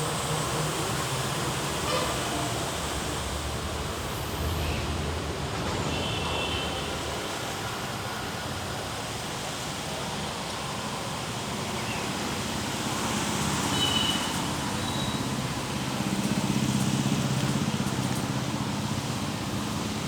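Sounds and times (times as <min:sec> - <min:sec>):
heavy rain: 0:00.0 - 0:20.0
highway traffic passing: 0:00.0 - 0:20.0
tyres hissing on wet road: 0:00.0 - 0:20.0.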